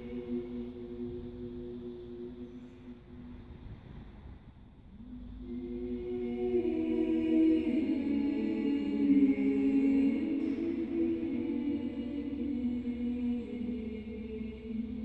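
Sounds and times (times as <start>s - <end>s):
women singing wordless harmony: 0.0s - 3.4s, 5.0s - 15.0s.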